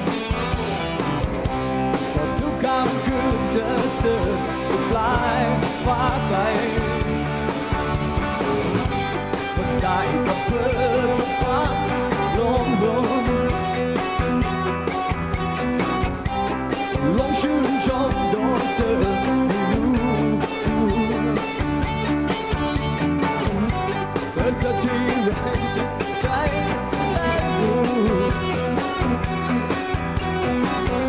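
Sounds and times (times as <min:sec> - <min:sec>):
drums: 0:00.0 - 0:31.0
electric guitars: 0:00.0 - 0:31.0.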